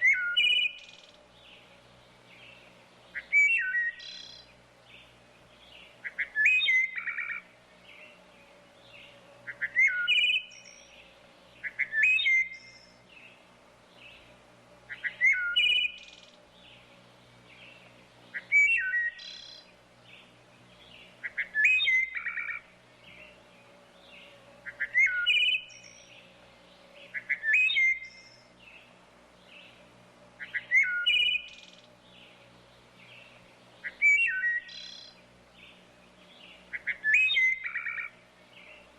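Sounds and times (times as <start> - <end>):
bird singing fluty phrases: 0.0 - 38.9.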